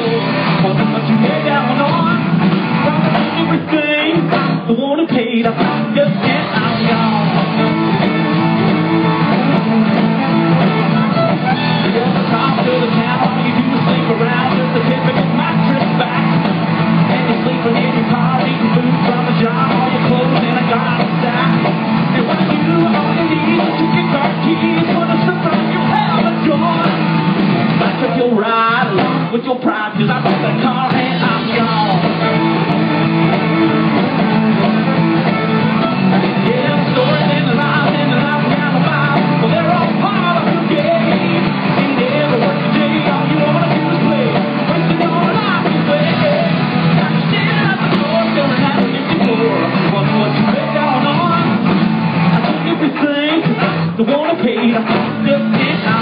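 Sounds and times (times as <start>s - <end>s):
live country band playing: 0.0s - 56.0s
man singing: 0.0s - 56.0s.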